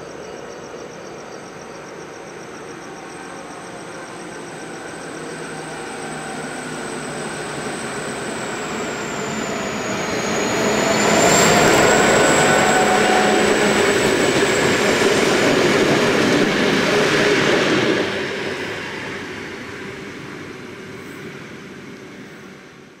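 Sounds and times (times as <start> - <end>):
high whine: 0.0 - 22.5
locomotive engines passing: 0.6 - 22.6.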